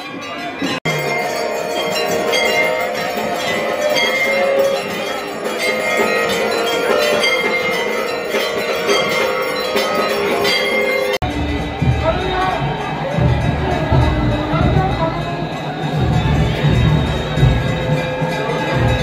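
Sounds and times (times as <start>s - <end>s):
bells ringing: 0.0s - 19.0s
crowd din: 0.0s - 19.0s.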